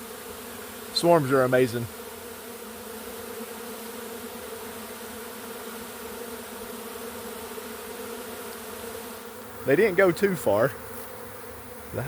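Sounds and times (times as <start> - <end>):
swarm of bees buzzing: 0.0 - 12.0.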